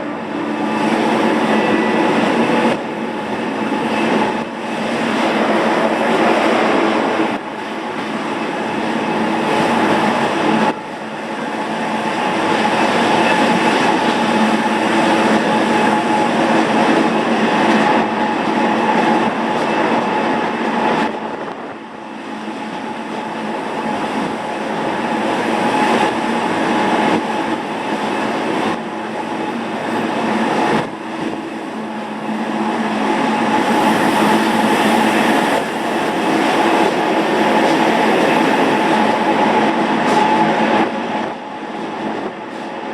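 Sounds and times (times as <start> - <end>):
electric train rolling rumble: 0.0 - 42.9.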